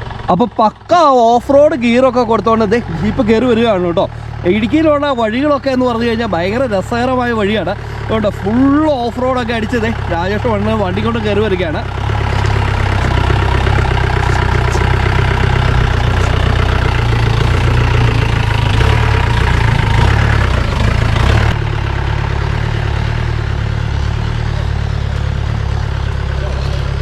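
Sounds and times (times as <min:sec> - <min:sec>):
engine labouring on a climb: 0:00.0 - 0:27.0.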